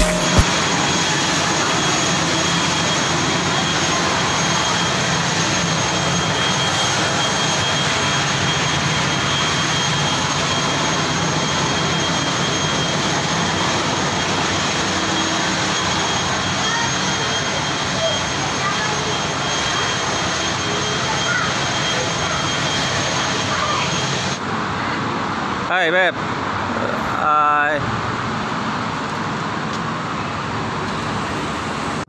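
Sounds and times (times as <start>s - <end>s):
aircraft engine rushing with high whine: 0.0s - 32.0s.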